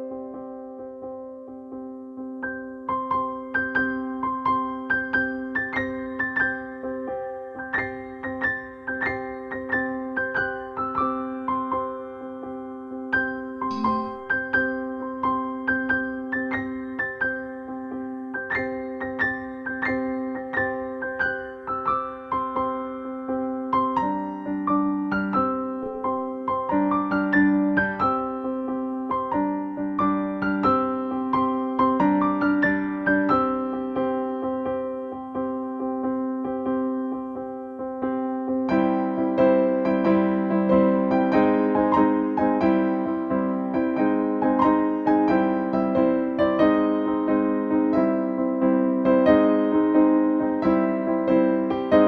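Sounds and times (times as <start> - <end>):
electric piano music: 0.0 - 52.0.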